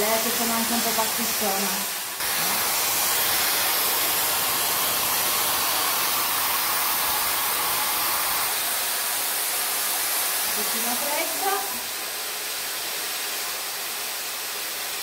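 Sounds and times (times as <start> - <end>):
hair styler blowing air: 0.0 - 15.0.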